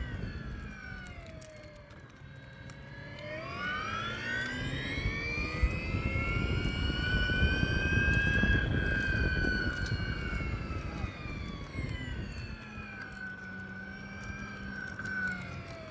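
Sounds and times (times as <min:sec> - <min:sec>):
electric scooter motor whining: 0:00.0 - 0:15.9
road and wind rush: 0:00.0 - 0:15.9.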